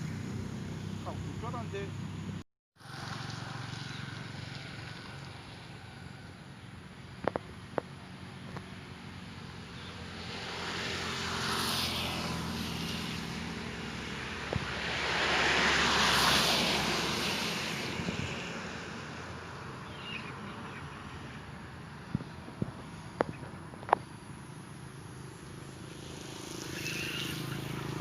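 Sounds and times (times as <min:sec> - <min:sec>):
vehicle passing by: 0:00.0 - 0:28.0.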